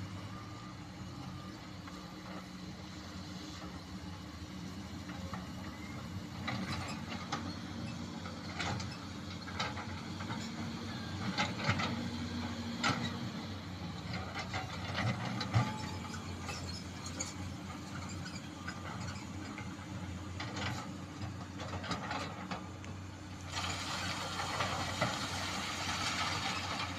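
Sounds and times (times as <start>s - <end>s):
excavator diesel engines running: 0.0s - 26.9s.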